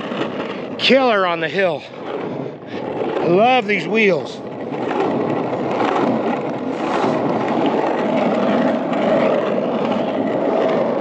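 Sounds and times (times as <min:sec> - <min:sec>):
skateboard wheels on rough asphalt: 0:00.0 - 0:11.0.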